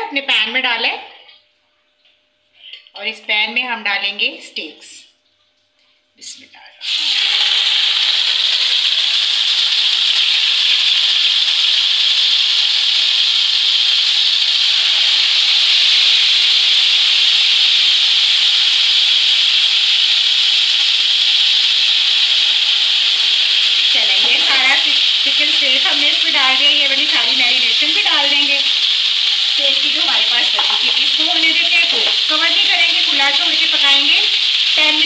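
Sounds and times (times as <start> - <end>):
meat sizzling in oil: 6.8 - 35.0.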